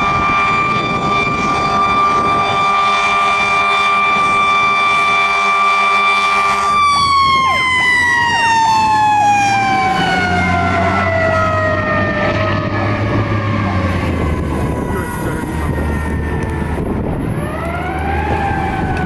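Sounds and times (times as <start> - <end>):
fire engine siren: 0.0 - 19.0
second wailing siren: 0.0 - 19.0.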